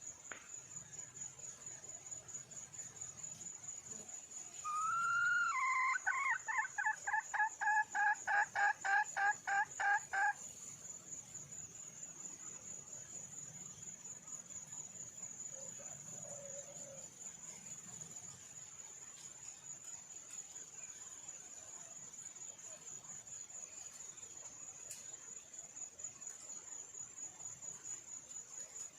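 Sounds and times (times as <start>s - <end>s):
insect high-pitched trill: 0.0s - 28.9s.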